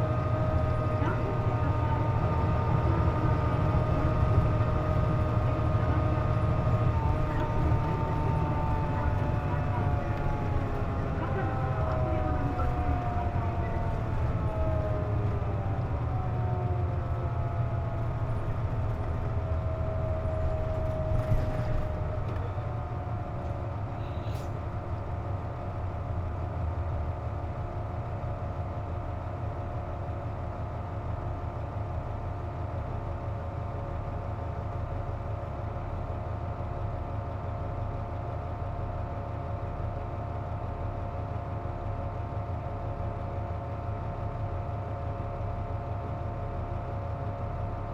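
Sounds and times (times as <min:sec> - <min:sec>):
bus engine slowing: 0:00.0 - 0:47.9
idling engine rumble: 0:00.0 - 0:47.9.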